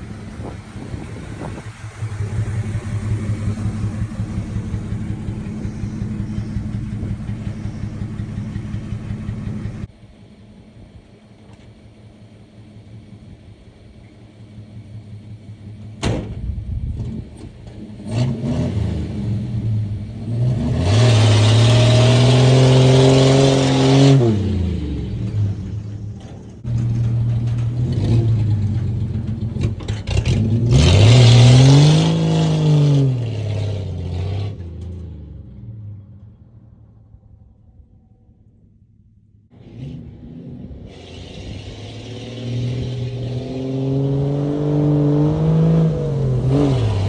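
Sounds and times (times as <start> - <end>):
truck engine revving: 0.0 - 9.9, 15.2 - 38.0, 39.5 - 47.0.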